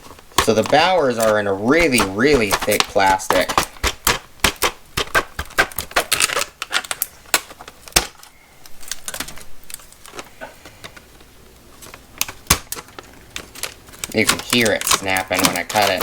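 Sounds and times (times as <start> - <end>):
plastic packaging being cut: 0.0 - 10.3, 12.2 - 16.0.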